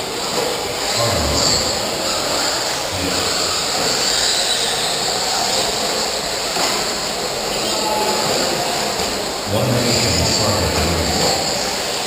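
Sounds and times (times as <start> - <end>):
radio-controlled trucks whirring: 0.0 - 12.0.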